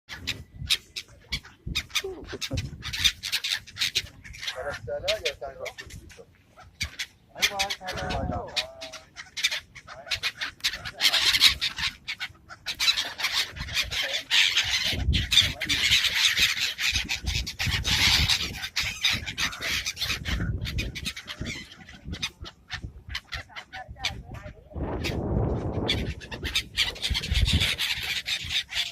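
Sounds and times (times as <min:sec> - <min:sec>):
seagulls calling: 0:00.1 - 0:28.9.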